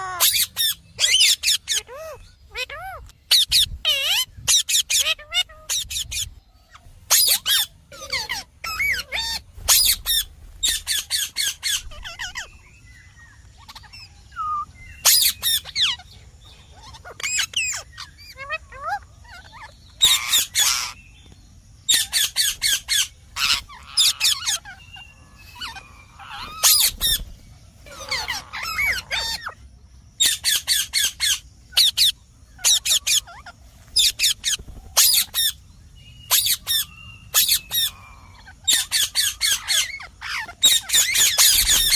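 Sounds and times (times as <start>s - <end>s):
parakeet screeching: 0.0s - 12.6s, 13.6s - 21.0s, 21.9s - 29.6s, 30.2s - 35.6s, 36.3s - 41.9s.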